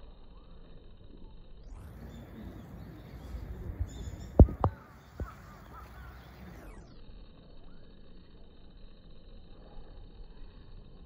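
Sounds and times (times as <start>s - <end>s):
low outdoor rumble and hiss: 0.0s - 11.0s.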